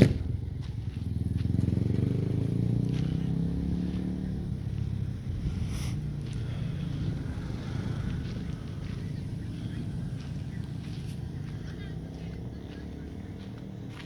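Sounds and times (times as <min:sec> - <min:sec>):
motor vehicle engine running: 0:00.0 - 0:14.0.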